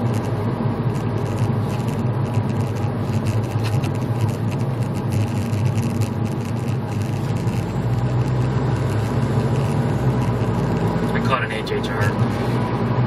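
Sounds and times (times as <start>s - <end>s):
car engine hum: 0.0s - 13.0s
tyre and road noise: 0.0s - 13.0s.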